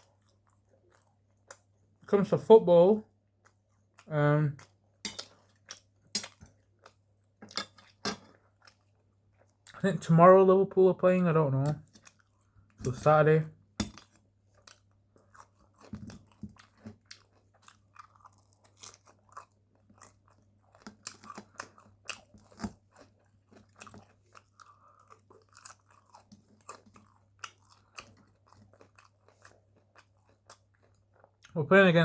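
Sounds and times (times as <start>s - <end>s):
person chewing food: 0.0s - 2.1s, 3.1s - 9.8s, 11.7s - 31.6s.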